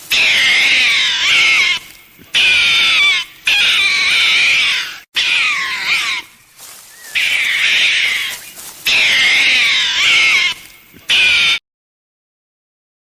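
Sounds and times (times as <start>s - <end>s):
animal wavering cries: 0.0s - 11.6s.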